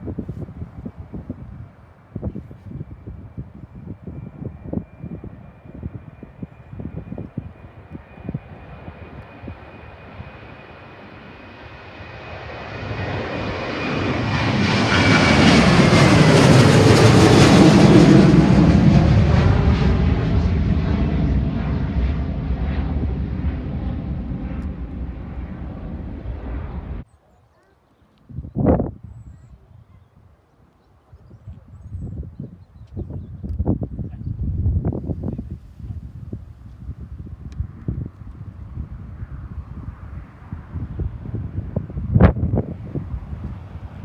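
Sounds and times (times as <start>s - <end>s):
jet airliner engines passing: 0.1s - 27.0s, 33.6s - 44.0s.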